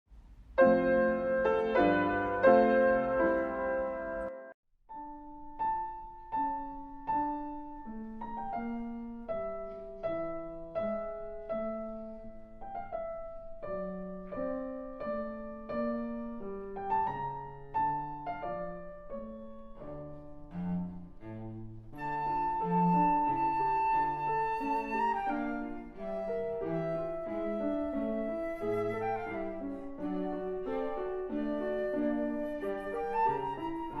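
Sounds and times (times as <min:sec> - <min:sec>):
slow classical piano melody: 0:00.2 - 0:34.0.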